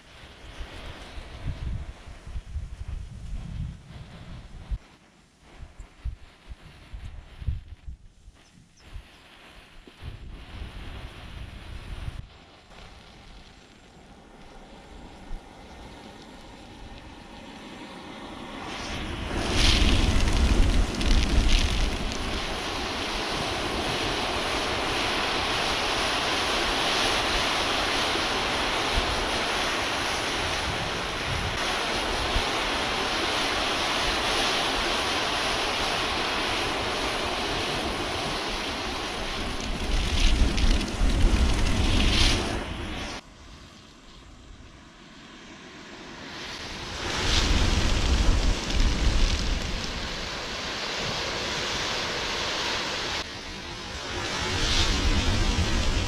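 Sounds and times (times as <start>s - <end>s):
wind buffeting microphone: 0.0s - 43.2s, 46.5s - 56.0s
flames rushing: 0.0s - 44.5s, 46.2s - 56.0s.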